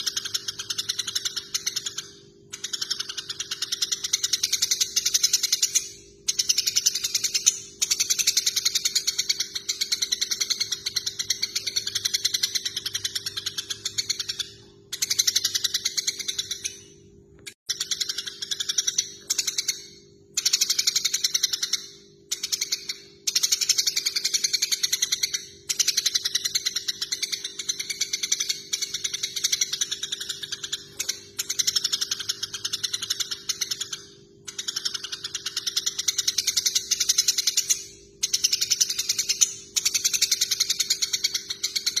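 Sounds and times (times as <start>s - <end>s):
sparrows chattering: 0.0s - 16.8s, 20.4s - 42.0s.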